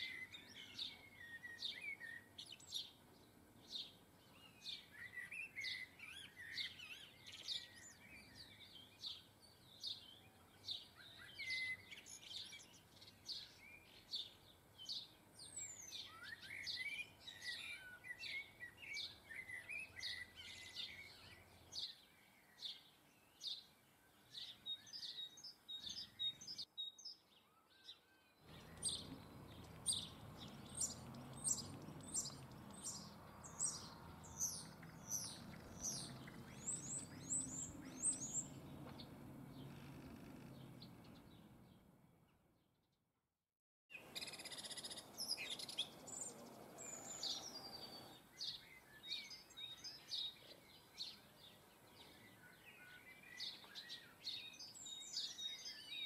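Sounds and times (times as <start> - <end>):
birds chirping and warbling: 0.0 - 42.4, 43.9 - 56.0.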